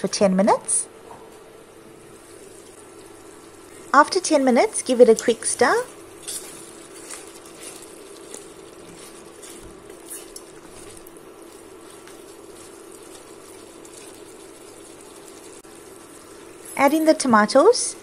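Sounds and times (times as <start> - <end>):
curry bubbling in a pot: 2.2 - 16.7.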